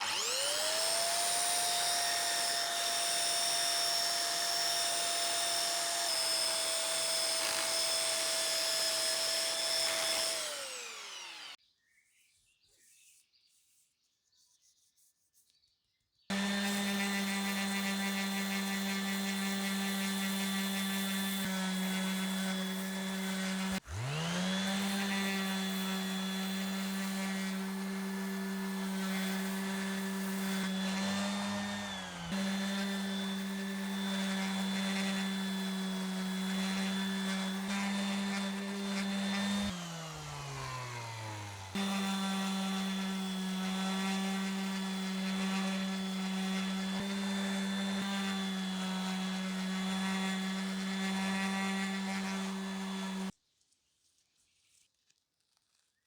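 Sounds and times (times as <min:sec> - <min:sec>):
high-pitched power tool motor whine: 0:00.0 - 0:11.6, 0:16.3 - 0:53.3
lower-pitched power tool motor: 0:00.0 - 0:11.6, 0:16.3 - 0:53.3.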